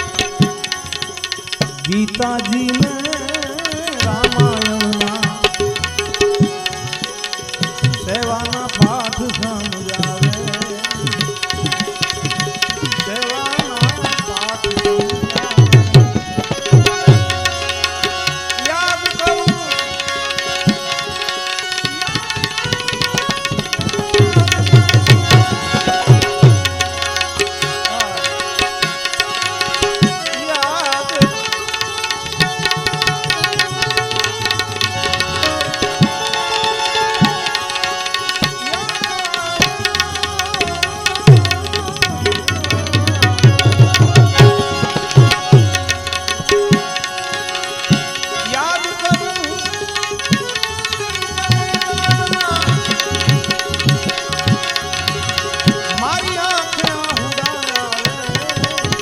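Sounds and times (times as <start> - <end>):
held notes from melodic instrument: 0.0 - 59.0
tabla playing fast strokes: 0.0 - 59.0.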